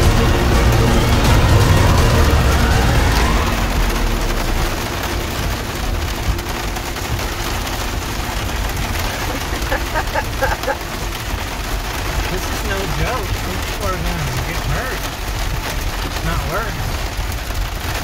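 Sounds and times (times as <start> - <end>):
heavy rain on car roof: 0.0 - 18.0
low engine rumble: 0.0 - 18.0.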